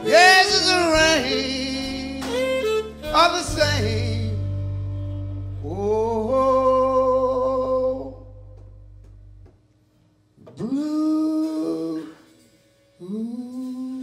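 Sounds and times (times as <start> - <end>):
person singing long held notes: 0.0 - 8.7, 10.5 - 14.0.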